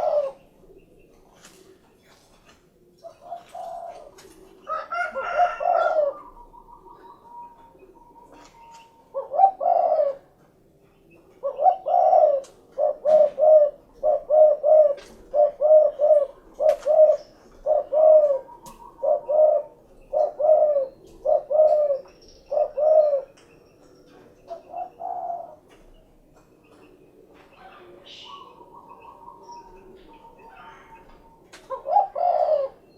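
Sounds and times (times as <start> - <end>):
dove cooing: 0.0 - 10.5, 11.1 - 23.4, 24.0 - 32.9.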